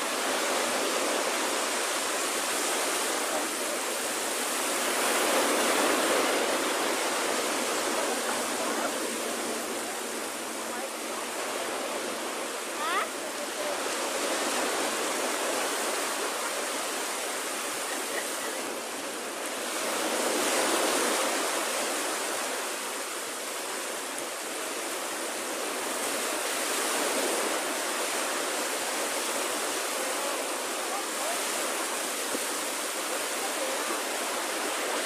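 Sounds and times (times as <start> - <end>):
small waves washing on beach: 0.0 - 35.0.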